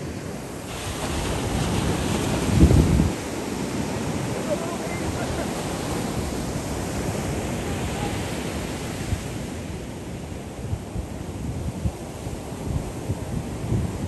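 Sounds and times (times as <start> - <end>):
surf rushing on beach: 0.0 - 14.0
wind buffeting microphone: 0.0 - 14.0.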